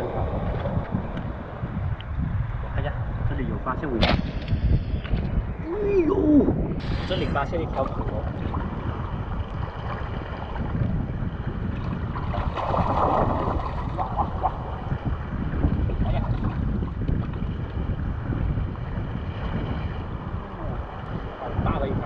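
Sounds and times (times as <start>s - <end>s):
sea waves: 0.0s - 22.0s
wind rumbling on microphone: 0.0s - 22.0s.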